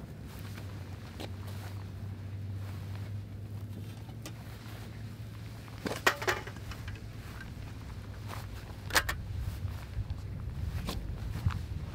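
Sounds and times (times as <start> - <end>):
low steady rumble: 0.0 - 11.9
footsteps on sand: 0.2 - 11.9.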